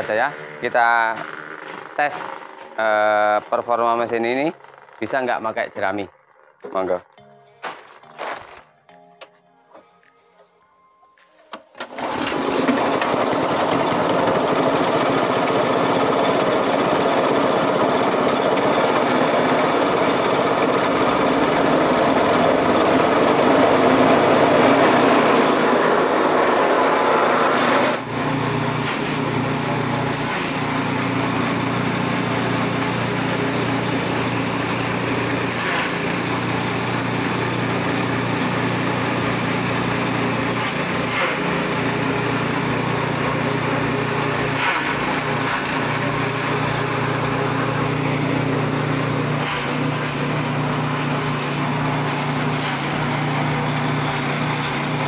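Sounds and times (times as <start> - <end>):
small engine running: 0.0 - 7.0, 11.8 - 55.0.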